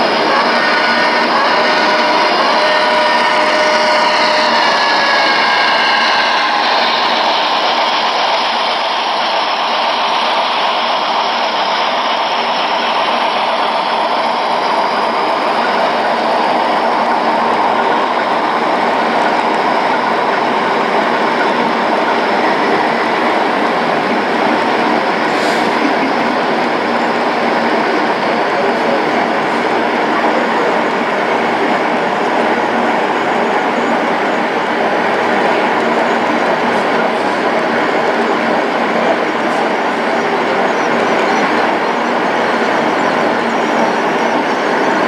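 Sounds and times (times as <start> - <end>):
model train rolling on track: 0.0 - 45.0.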